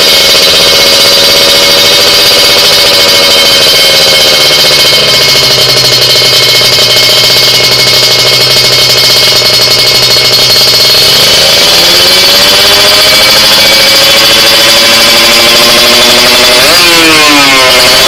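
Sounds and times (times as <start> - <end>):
two-stroke motorcycle engine revving: 0.0 - 18.0.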